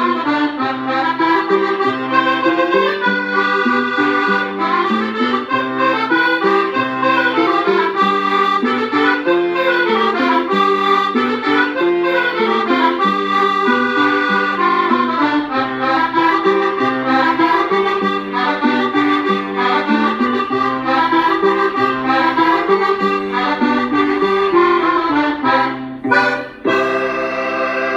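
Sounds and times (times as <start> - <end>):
accordion folk tune: 0.0 - 27.9.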